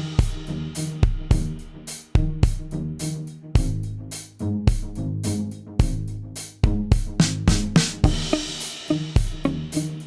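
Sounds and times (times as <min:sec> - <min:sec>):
drum beat music: 0:00.0 - 0:05.1, 0:05.8 - 0:10.0.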